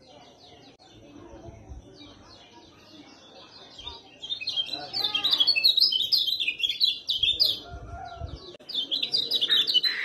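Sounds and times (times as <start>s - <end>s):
birds chirping rapidly: 0.0s - 10.0s.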